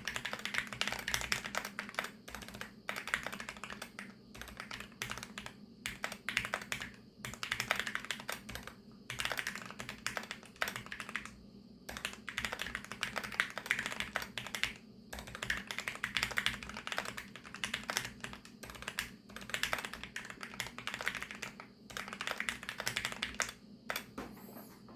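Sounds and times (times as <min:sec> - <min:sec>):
fast mechanical keyboard typing: 0:00.0 - 0:24.1.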